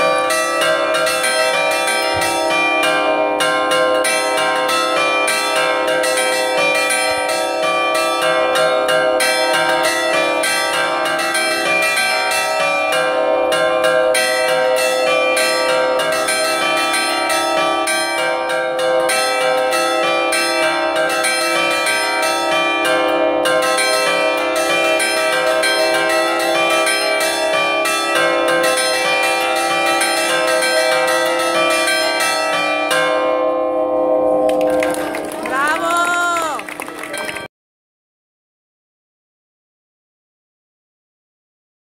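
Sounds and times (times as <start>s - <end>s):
church bells struck rapidly: 0.0s - 37.5s.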